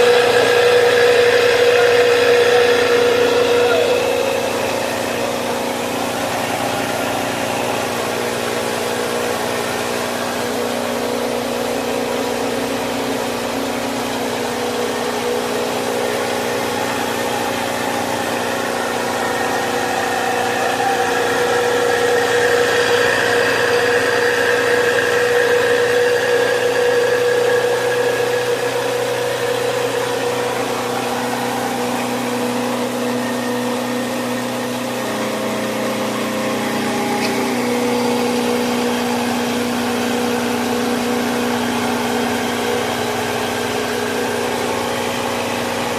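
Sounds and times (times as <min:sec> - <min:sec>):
rice mill motor humming: 0:00.0 - 0:45.9.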